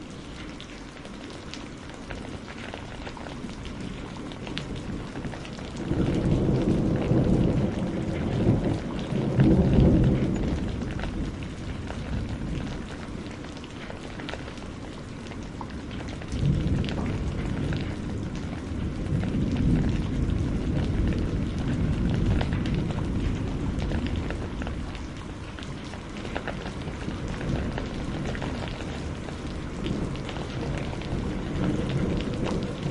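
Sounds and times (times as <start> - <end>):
steady rain: 0.0 - 32.9.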